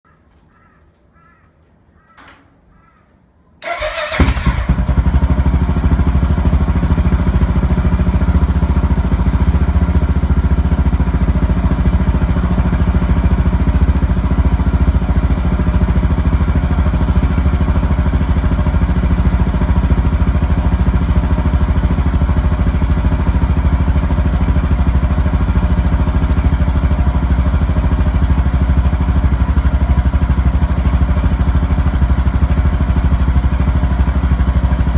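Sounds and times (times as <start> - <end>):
motorcycle engine starting and idling: 3.6 - 34.9.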